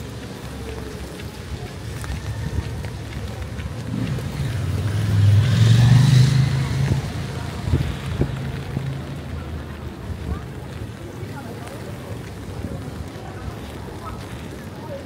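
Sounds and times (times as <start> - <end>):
tyres hissing on wet road: 0.0 - 15.0
vehicle engine rumble: 0.0 - 15.0.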